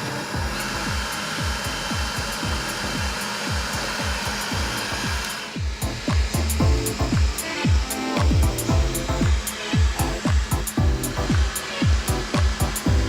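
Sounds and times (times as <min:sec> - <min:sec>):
electronic music with beat: 0:00.0 - 0:13.0
robot vacuum whirring: 0:00.0 - 0:13.0.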